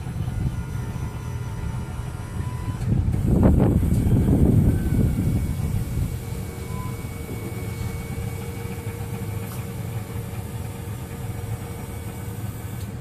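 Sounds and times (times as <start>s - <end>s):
actuator whine: 0.0s - 13.0s.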